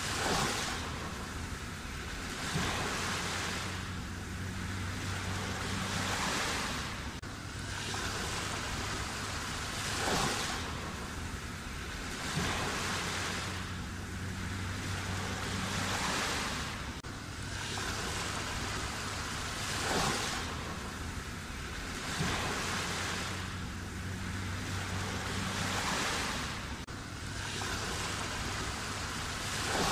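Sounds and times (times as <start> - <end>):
sea waves breaking on shore: 0.0 - 29.9.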